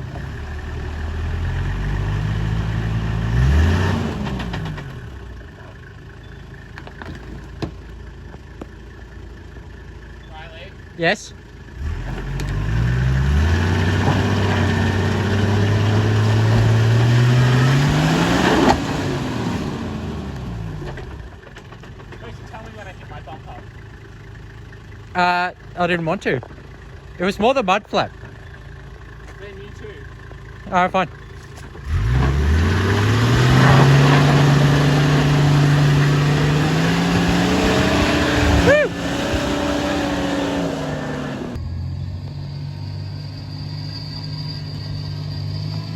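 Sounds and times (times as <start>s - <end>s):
engine pulling under load: 0.0s - 45.9s.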